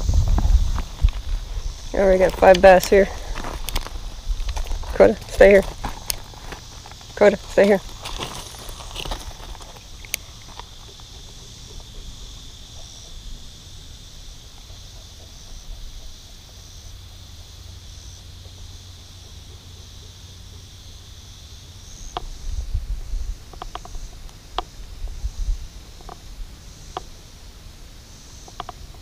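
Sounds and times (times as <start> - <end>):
faint pulsing insect layer: 0.0 - 29.0
insects buzzing: 0.0 - 29.0.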